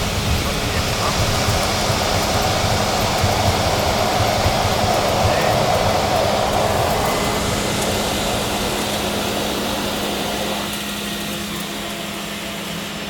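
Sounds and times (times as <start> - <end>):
seaplane engine and propeller: 0.0 - 13.0.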